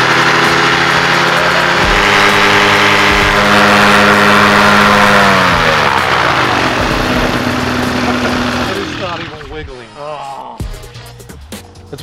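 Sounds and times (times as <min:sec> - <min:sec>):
paramotor engine and propeller: 0:00.0 - 0:10.0.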